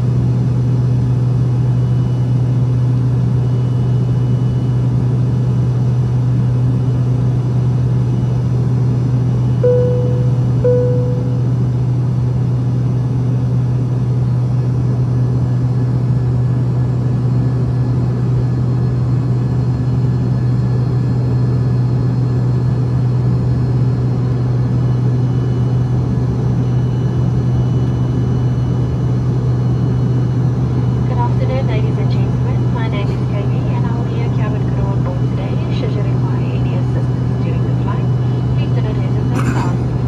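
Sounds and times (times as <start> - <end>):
airliner cabin engine hum: 0.0 - 40.0.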